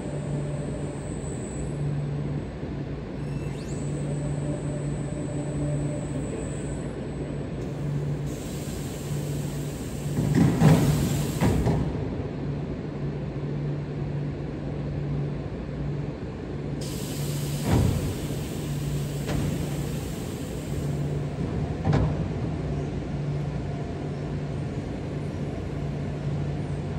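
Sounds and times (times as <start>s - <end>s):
industrial machinery hum: 0.0s - 26.9s.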